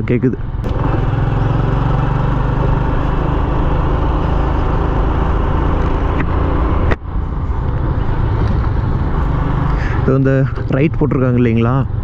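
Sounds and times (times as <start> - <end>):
loud wind noise: 0.0 - 12.0
road noise: 0.0 - 12.0
motorcycle engine cruising: 0.4 - 12.0.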